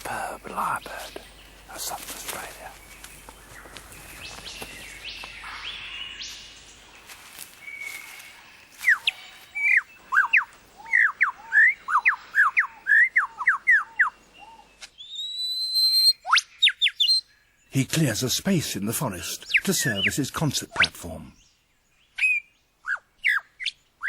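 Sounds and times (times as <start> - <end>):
soft bird calls: 0.0 - 24.0.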